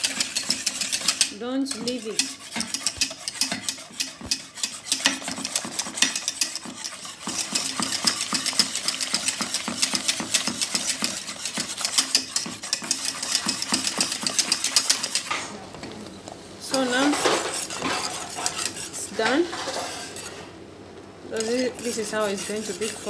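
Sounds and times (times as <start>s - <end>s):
whisk clinking in metal pot: 0.0s - 15.3s, 16.7s - 20.4s, 21.4s - 23.0s.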